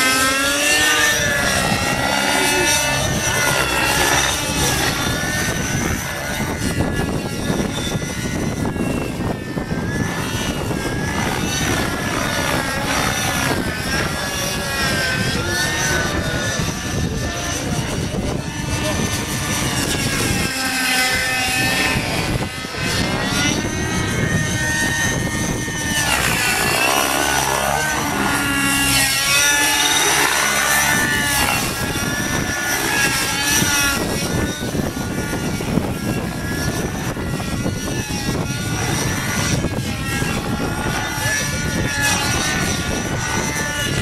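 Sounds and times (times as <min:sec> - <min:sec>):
model helicopter engine and rotor whine: 0:00.0 - 0:44.0.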